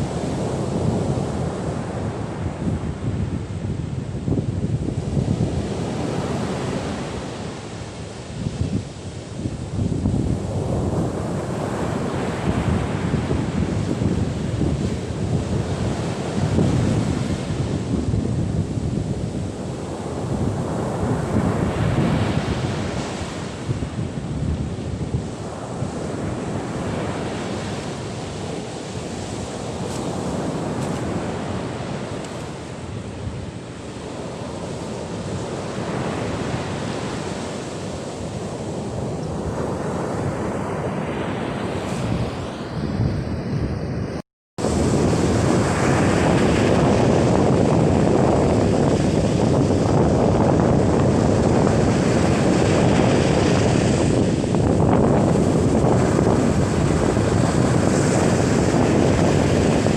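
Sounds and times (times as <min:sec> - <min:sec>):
wind gusting against microphone: 0:00.0 - 0:59.9
surf breaking on beach: 0:09.4 - 0:43.2, 0:44.6 - 0:59.9.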